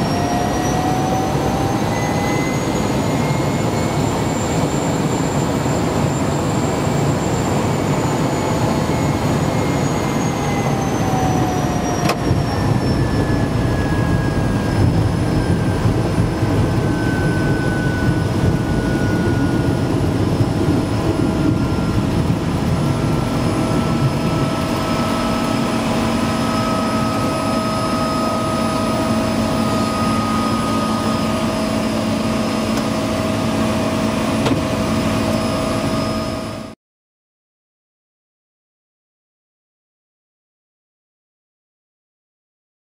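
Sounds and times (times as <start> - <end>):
propeller plane engine running: 0.0 - 36.8
thin whine: 0.0 - 36.8.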